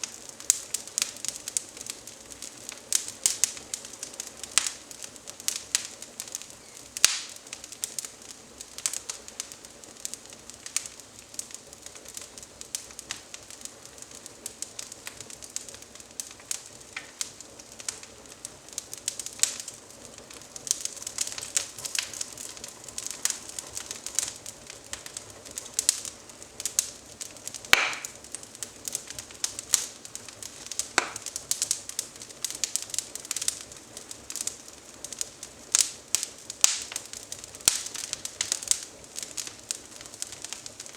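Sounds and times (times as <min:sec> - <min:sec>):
fire snapping and popping: 0:00.0 - 0:40.9
twig fire crackling: 0:00.0 - 0:40.9.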